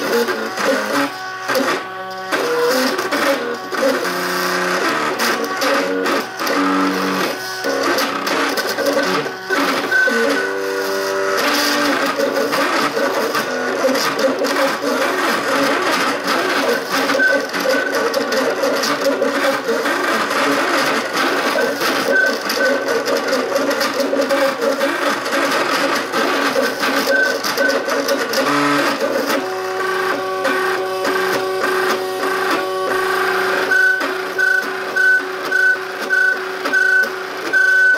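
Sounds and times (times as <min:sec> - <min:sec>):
rhythmically broken steady tone: 0:00.0 - 0:36.5
stepper motors whining: 0:00.0 - 0:37.9.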